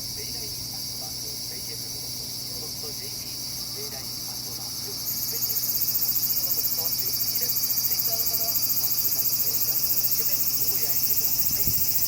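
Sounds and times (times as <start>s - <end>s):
insects chirring: 0.0s - 12.0s
loud pulsing insect chirr: 0.0s - 12.0s.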